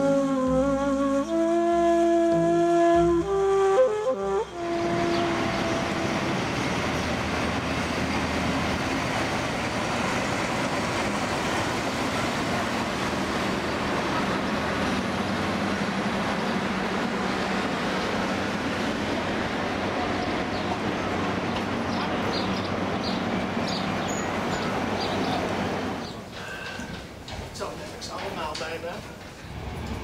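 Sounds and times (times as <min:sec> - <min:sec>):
diesel locomotive engine: 0:00.0 - 0:30.0.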